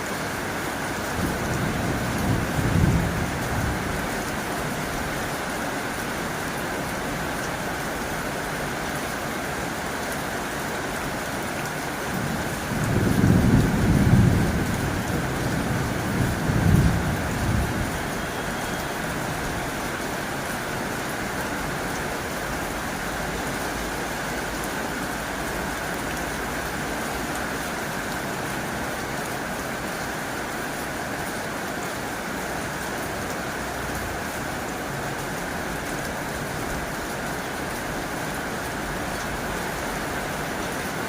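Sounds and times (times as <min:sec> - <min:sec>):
heavy rain on a tin roof: 0:00.0 - 0:41.0.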